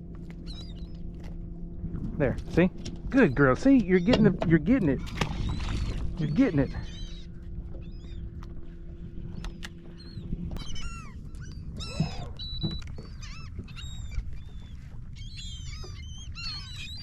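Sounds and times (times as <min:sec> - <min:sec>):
seabirds calling: 0:00.0 - 0:17.0
wind and water rumbling: 0:00.0 - 0:17.0.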